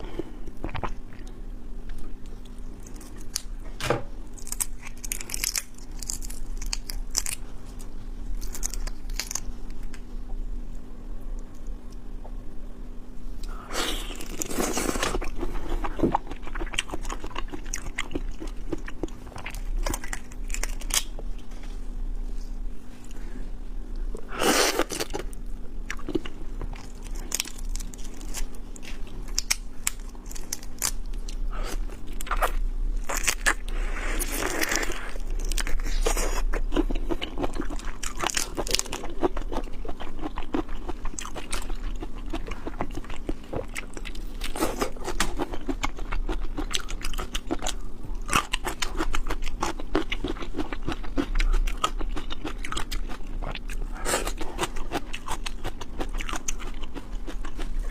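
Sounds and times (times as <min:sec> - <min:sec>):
chewing and crunching shrimp: 0:00.2 - 0:01.4, 0:02.0 - 0:03.6, 0:04.3 - 0:10.0, 0:13.5 - 0:21.2, 0:24.4 - 0:57.9.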